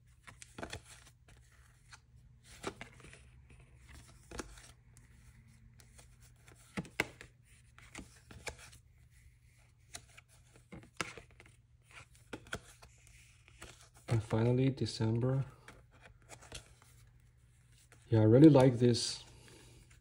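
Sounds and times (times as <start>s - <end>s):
paper pages rustling: 0.0s - 20.0s.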